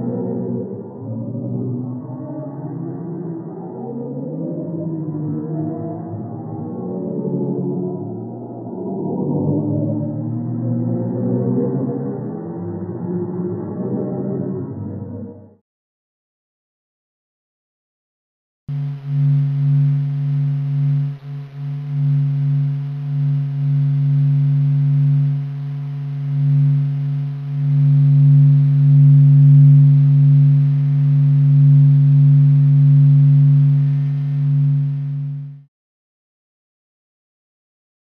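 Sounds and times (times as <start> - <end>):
deep steady drone: 0.0 - 15.6, 18.7 - 35.7.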